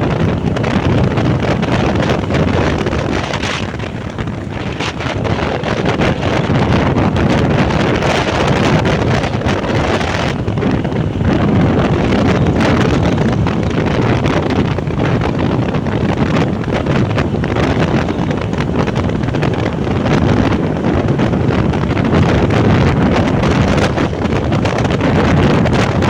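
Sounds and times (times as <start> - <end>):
motorbike riding noise: 0.0 - 26.0
wind rushing over microphone: 0.0 - 26.0.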